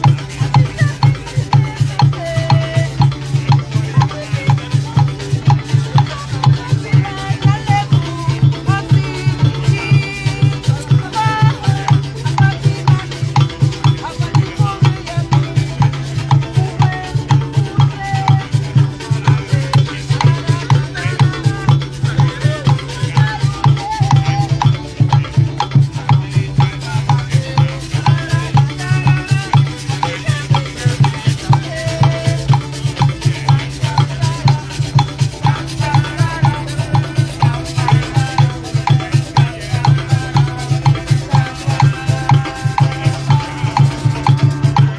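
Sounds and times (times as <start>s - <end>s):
fast drum beat: 0.0s - 44.9s
live folk music: 0.0s - 44.9s
shakers rattling: 0.0s - 44.9s.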